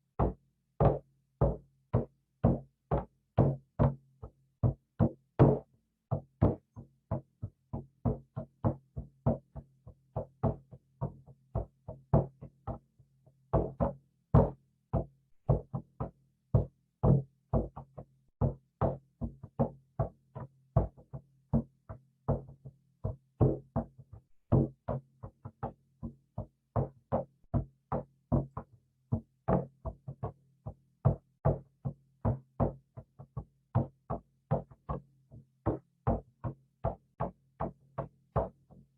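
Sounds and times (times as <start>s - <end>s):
hand drum beats: 0.2s - 12.9s, 13.5s - 38.6s.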